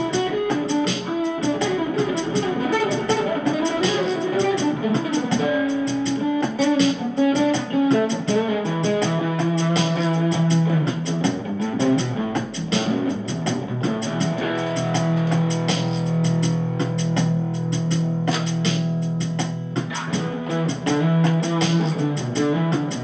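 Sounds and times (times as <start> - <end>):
guitar-led instrumental music: 0.0 - 23.0.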